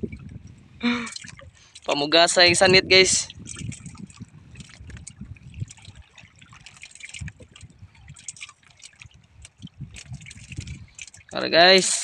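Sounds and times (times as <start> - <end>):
small splashes: 0.0 - 12.0
water lapping against boat hull: 0.0 - 12.0.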